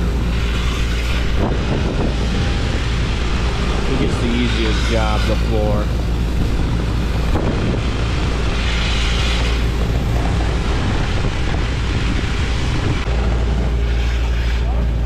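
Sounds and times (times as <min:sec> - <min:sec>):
hiss of air and concrete spray: 0:00.0 - 0:13.1
continuous low rumble: 0:00.0 - 0:15.0.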